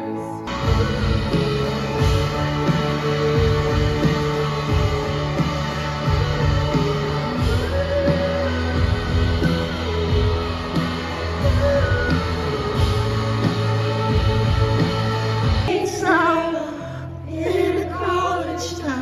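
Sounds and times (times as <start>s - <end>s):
woman singing into microphone: 0.0s - 19.0s
rock band playing: 0.4s - 16.3s.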